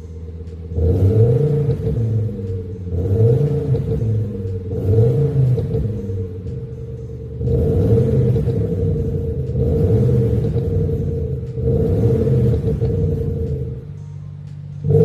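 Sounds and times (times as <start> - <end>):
synthetic engine exhaust note revving: 0.0 - 15.0.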